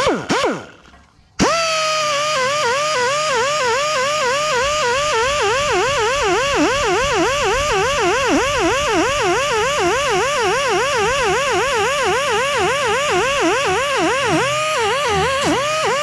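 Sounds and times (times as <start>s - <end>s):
grinder whining on steel: 0.0s - 16.0s.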